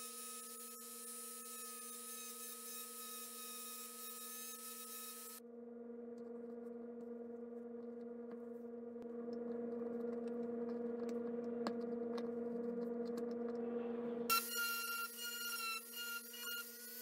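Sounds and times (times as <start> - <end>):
electrical hum: 2.8 - 17.0.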